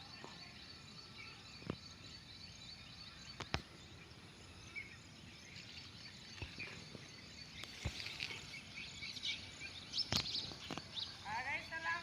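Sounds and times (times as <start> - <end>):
birds chirping: 0.0 - 12.0
insects: 0.0 - 12.0.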